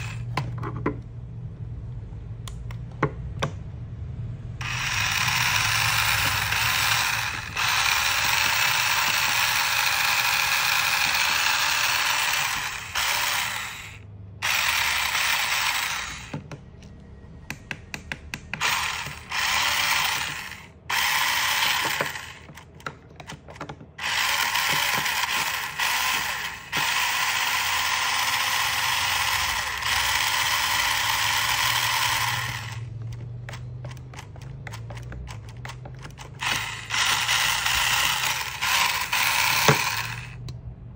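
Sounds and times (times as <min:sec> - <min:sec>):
toy car motor whirring: 0:00.0 - 0:00.3, 0:04.6 - 0:16.4, 0:18.6 - 0:22.8, 0:24.0 - 0:40.5.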